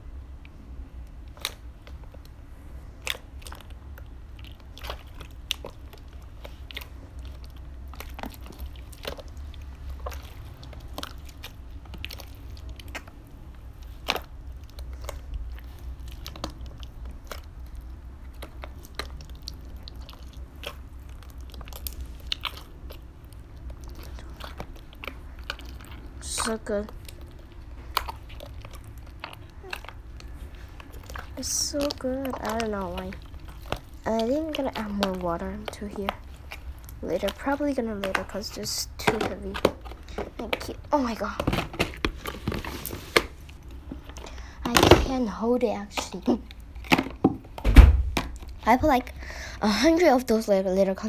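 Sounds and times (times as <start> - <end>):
slime crackling and popping: 1.0 - 51.0.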